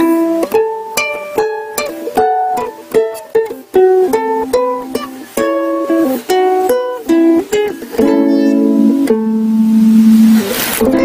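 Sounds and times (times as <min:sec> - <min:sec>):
ukulele melody: 0:00.0 - 0:11.0.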